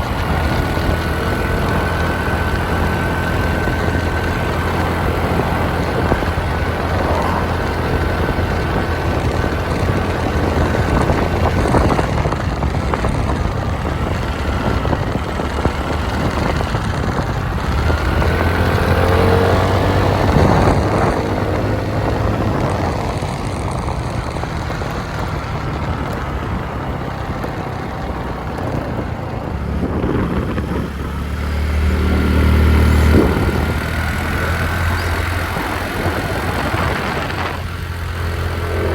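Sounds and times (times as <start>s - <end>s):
motorbike engine hum: 0.0s - 38.9s
road and wind noise: 0.0s - 38.9s.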